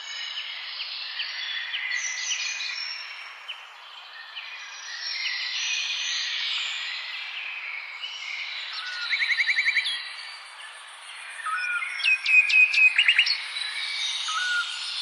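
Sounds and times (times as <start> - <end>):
songbirds chirping and whistling: 0.0 - 15.0.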